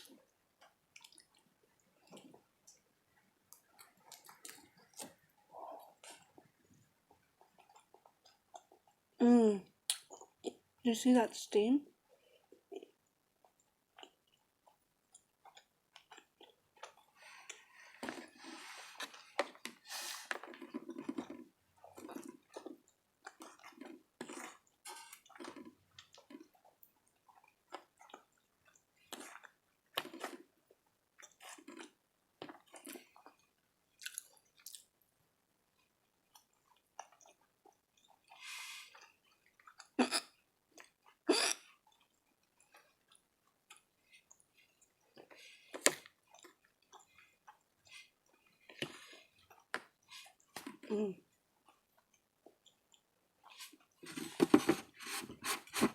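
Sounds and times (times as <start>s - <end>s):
person chewing: 0.0s - 2.9s, 3.5s - 9.1s, 9.8s - 10.7s, 12.4s - 35.0s, 35.7s - 50.9s, 51.6s - 54.9s.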